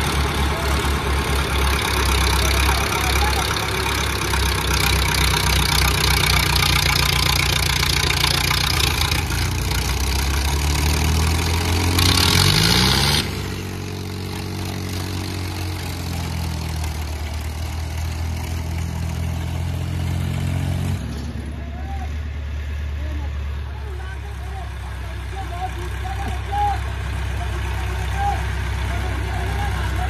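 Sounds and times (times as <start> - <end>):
diesel tractor engines running: 0.0 - 30.0.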